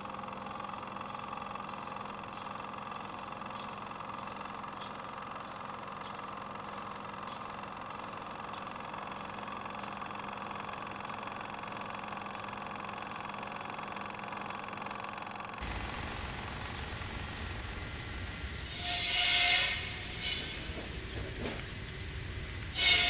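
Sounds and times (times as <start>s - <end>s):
mechanical whirring hum: 0.0s - 23.0s.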